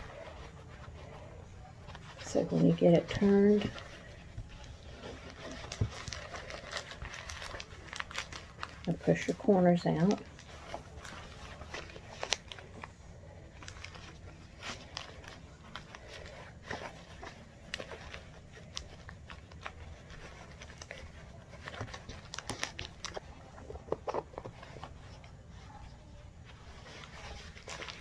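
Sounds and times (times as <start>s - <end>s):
stiff fabric bag rustling: 0.0s - 28.0s.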